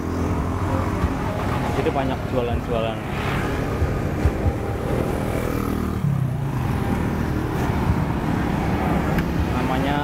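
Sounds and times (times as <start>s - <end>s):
motorcycle passing by: 0.0s - 10.0s
scooter and motorcycle engines: 0.0s - 10.0s.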